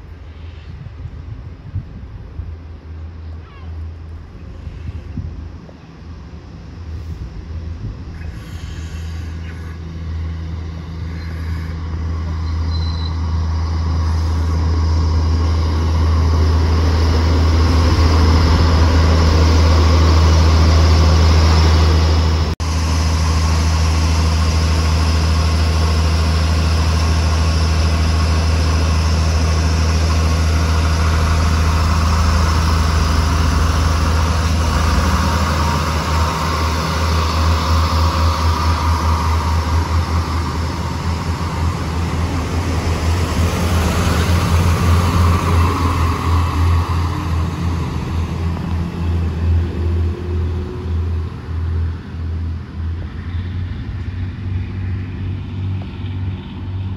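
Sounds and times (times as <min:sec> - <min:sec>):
diesel train engine droning: 0:00.0 - 0:56.9.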